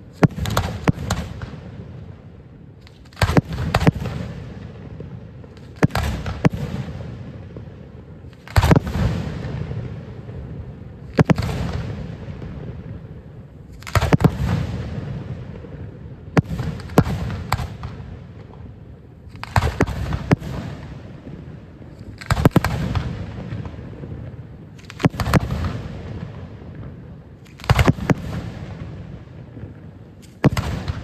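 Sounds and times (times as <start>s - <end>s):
fireworks banging: 0.0s - 1.7s, 2.8s - 31.0s
rolling echo: 0.0s - 31.0s.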